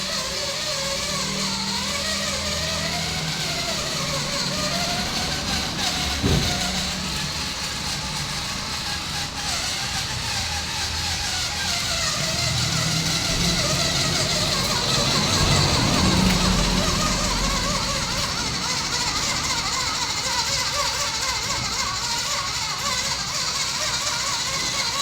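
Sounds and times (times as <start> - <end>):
toy truck electric motor whining: 0.0 - 25.0
truck knocking: 0.0 - 25.0.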